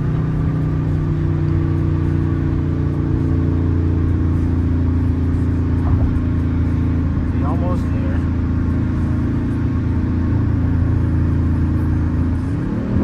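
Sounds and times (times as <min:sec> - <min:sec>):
car engine droning inside cabin: 0:00.0 - 0:13.0.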